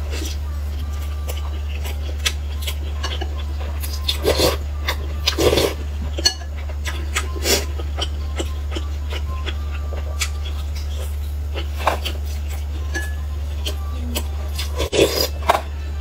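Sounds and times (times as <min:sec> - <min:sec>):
chewing crunchy pastry: 0:00.0 - 0:15.7
low hum: 0:00.0 - 0:16.0.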